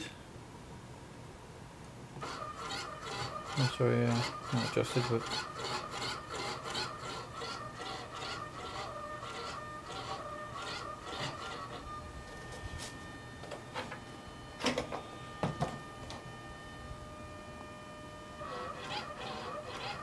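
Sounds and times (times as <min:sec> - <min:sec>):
servo whining: 0:02.2 - 0:20.0.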